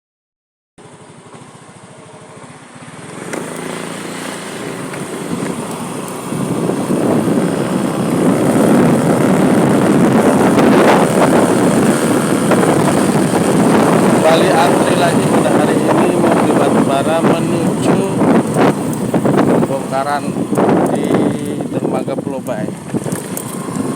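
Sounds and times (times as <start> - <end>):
motor vehicle engine running: 0.8 - 23.9.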